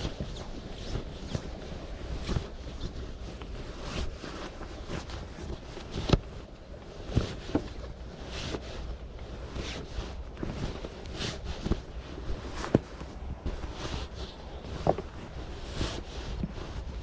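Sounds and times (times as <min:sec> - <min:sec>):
nylon sleeping bag rustling: 0:00.0 - 0:17.0.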